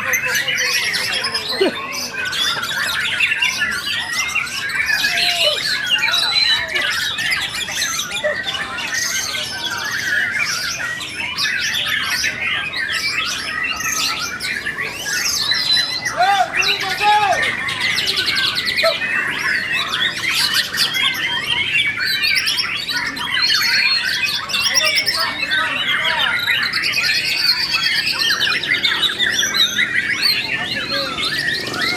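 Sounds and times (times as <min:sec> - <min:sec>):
birds singing whistles and trills: 0:00.0 - 0:31.9.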